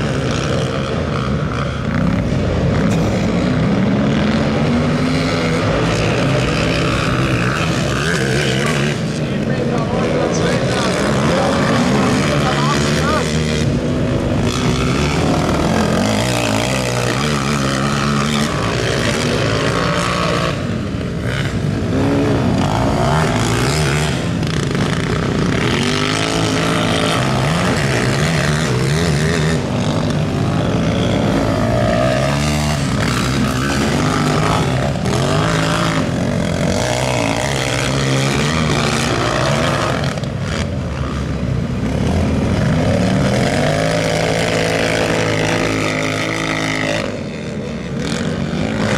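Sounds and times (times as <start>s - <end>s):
quad engines revving: 0.0s - 48.9s.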